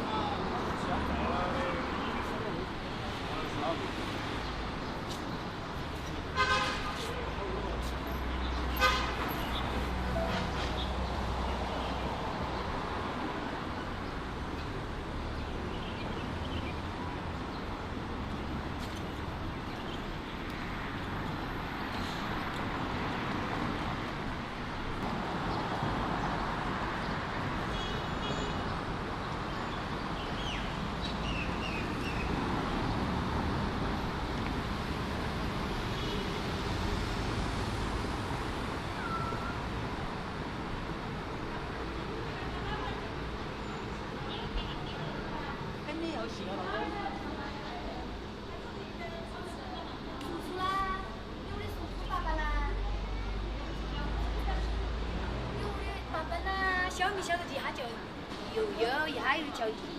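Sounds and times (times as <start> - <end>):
road traffic rush: 0.0 - 59.9.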